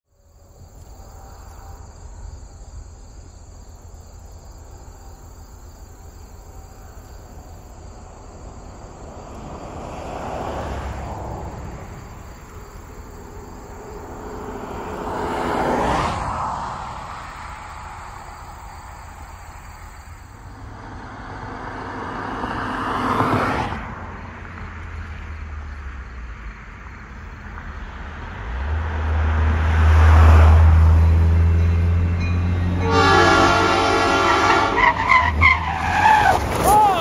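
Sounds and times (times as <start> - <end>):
insects chirping: 0.1 - 37.0.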